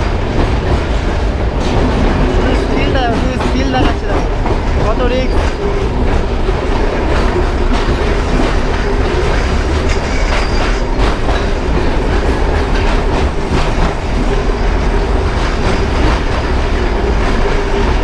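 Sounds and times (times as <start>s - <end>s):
train rumbling: 0.0s - 18.0s
wheels clicking over rail joints: 0.0s - 18.0s.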